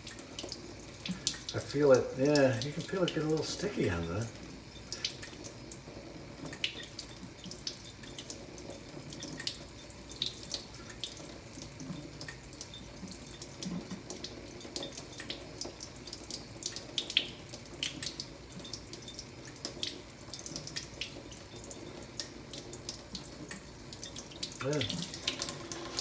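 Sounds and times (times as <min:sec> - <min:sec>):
tap water running into sink: 0:00.0 - 0:26.0
water splashing and dripping: 0:00.0 - 0:26.0.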